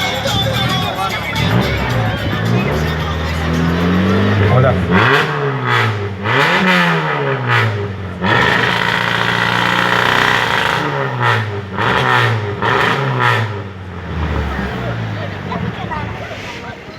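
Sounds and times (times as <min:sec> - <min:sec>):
sharp exhaust cracks: 0:00.0 - 0:16.8
race car engine revving: 0:00.0 - 0:16.9.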